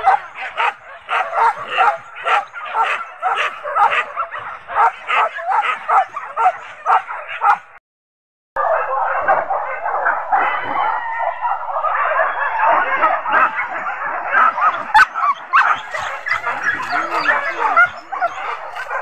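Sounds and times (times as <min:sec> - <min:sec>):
dogs barking and yelping: 0:00.0 - 0:07.8, 0:08.6 - 0:19.0.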